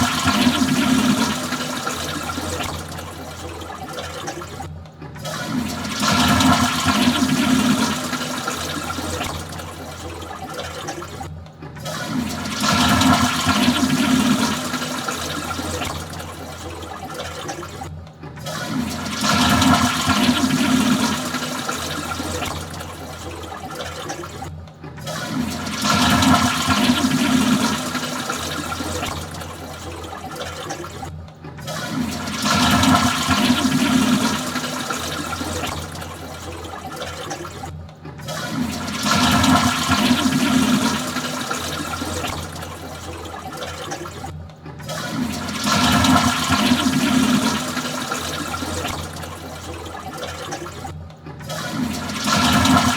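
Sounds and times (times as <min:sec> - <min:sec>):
toilet flushing: 0:00.0 - 0:52.9.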